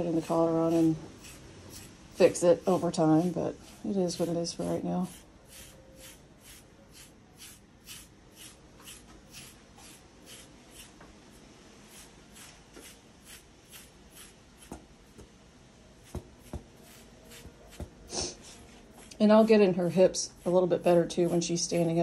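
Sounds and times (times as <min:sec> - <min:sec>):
carding knife raking through fur: 0:00.0 - 0:14.8, 0:16.0 - 0:22.0.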